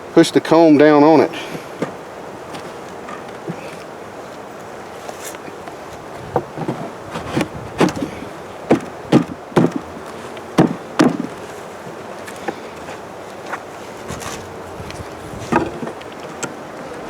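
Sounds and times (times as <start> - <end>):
honey bees humming: 0.0 - 17.0
beehive frames knocking: 1.4 - 17.0.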